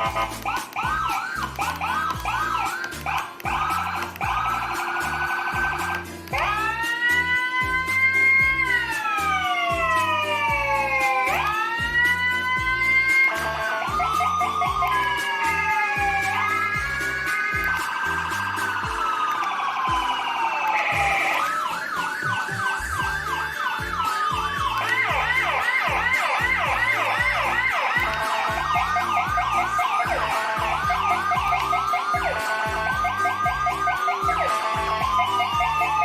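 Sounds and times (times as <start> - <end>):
electronic siren wail and yelp: 0.0 - 36.0
music with low beat: 0.0 - 36.0.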